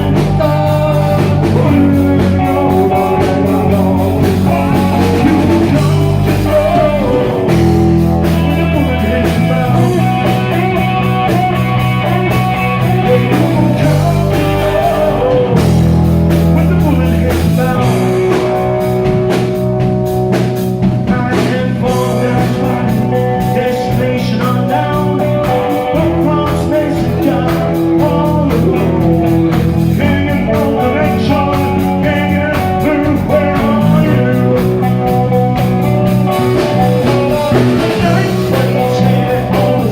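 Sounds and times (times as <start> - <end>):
bass notes: 0.0 - 39.9
guitar chords: 0.0 - 39.9
steady drum beat: 0.0 - 39.9.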